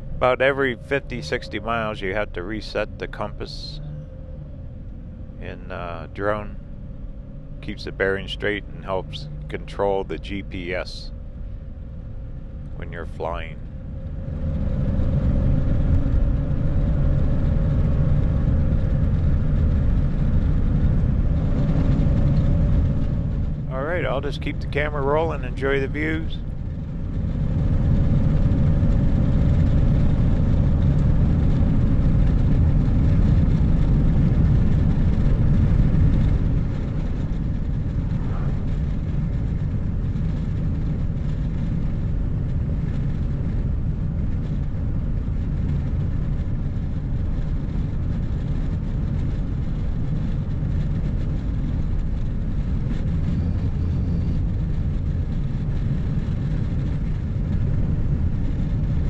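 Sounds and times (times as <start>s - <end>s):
vehicle road noise: 0.0s - 59.0s.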